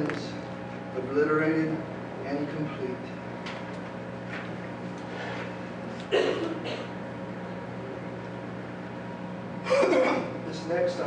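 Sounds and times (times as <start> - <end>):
electrical hum through speakers: 0.0 - 11.0.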